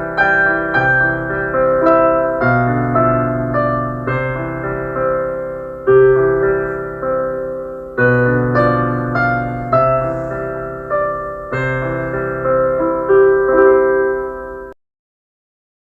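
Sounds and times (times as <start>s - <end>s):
piano chords ringing: 0.0s - 14.8s.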